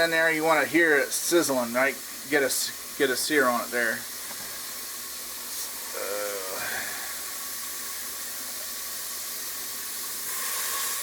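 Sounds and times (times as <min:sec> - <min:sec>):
meat sizzling in a pan: 0:01.0 - 0:11.0.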